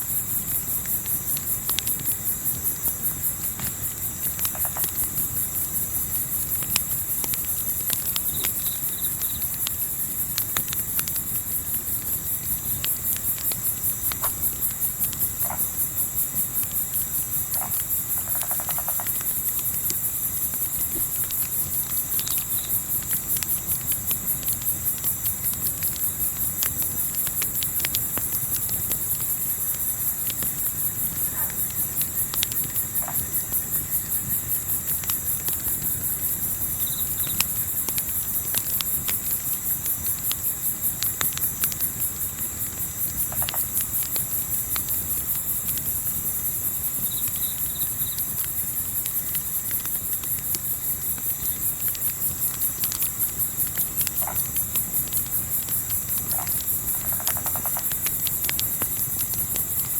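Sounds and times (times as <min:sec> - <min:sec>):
campfire crackling: 0:00.0 - 0:59.9
crickets chirping: 0:00.0 - 0:59.9.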